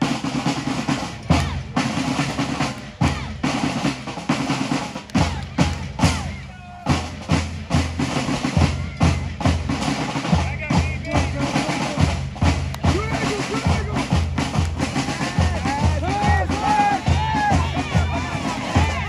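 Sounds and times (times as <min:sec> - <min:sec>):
snare drum rolls: 0:00.0 - 0:19.0.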